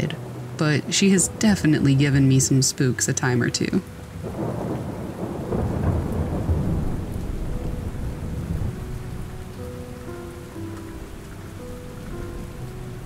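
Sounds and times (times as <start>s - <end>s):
steady rain: 0.0s - 13.0s
thunder rumbling: 0.6s - 13.0s.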